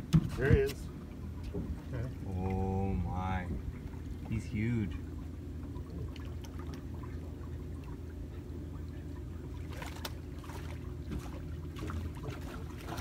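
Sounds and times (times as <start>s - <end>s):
steady low rumble: 0.0s - 13.0s
water splashing and sloshing: 0.0s - 13.0s.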